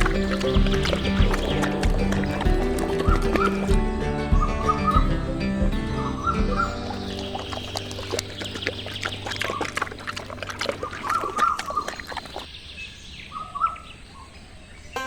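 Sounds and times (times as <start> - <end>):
ducks quacking: 0.0 - 12.5.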